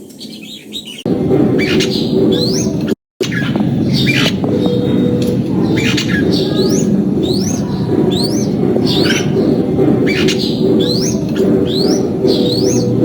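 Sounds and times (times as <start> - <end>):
bird calling upward notes: 0.9 - 13.0
dense low background noise: 1.1 - 13.0.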